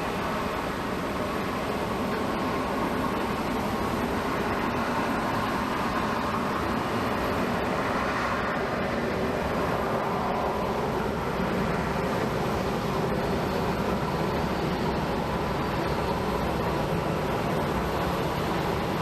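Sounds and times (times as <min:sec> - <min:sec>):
jet engines at takeoff power: 0:00.0 - 0:19.0.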